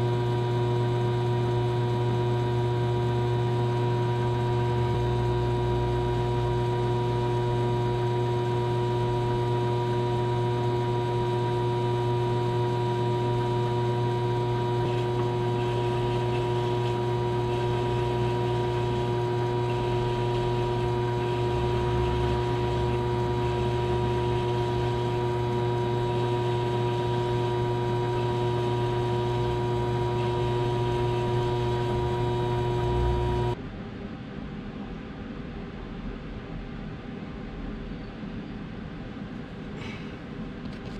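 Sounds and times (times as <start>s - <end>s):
metal lathe humming: 0.0s - 33.6s.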